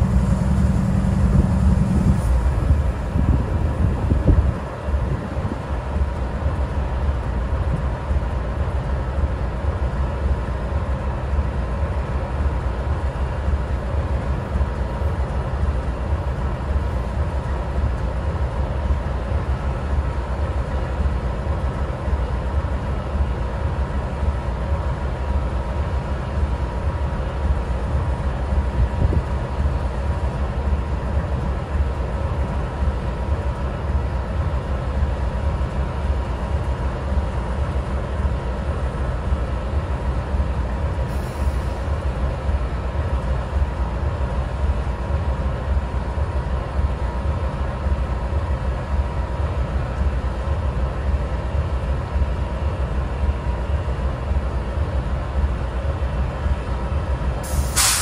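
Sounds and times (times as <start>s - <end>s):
locomotive engine idling: 0.0s - 58.0s.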